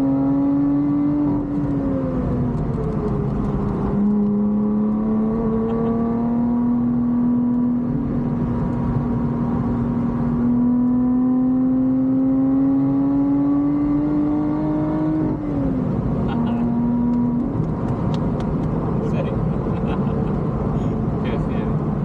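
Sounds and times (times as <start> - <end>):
car engine revving under load: 0.0 - 22.0.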